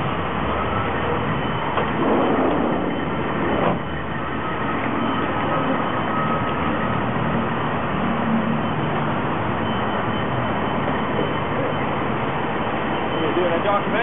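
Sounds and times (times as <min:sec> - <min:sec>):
city street traffic: 0:00.0 - 0:14.0
faint steady whine: 0:00.0 - 0:14.0.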